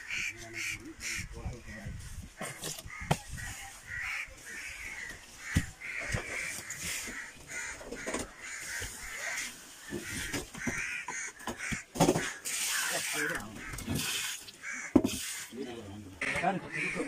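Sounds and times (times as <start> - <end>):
crows cawing: 2.4 - 15.5, 16.2 - 17.0.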